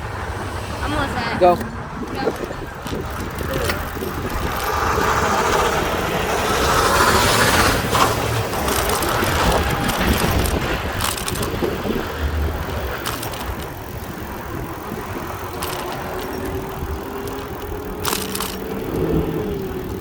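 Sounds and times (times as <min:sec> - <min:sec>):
bicycle rumbling: 0:00.0 - 0:20.0
clicks and rattles: 0:01.5 - 0:20.0.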